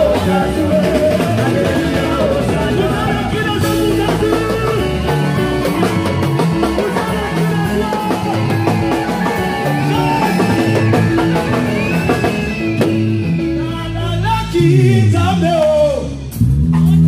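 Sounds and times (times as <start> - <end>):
church band music: 0.0 - 17.0.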